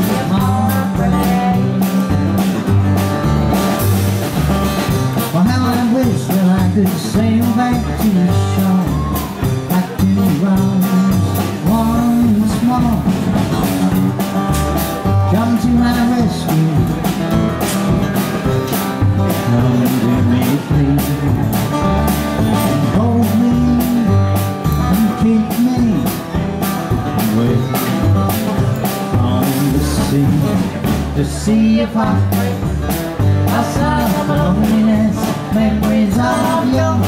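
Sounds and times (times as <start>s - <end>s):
live country band playing: 0.0s - 37.0s
steady drum beat: 0.0s - 37.0s.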